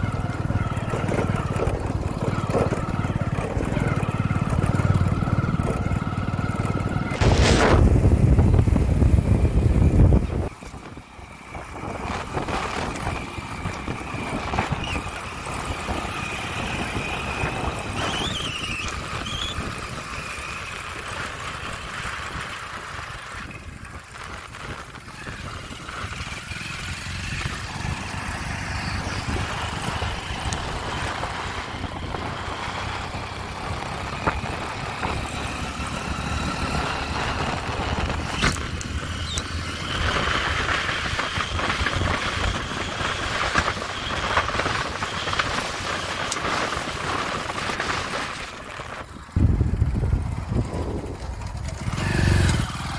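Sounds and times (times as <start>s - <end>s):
motorcycle running: 0.0s - 52.9s
wind buffeting microphone: 0.0s - 52.9s.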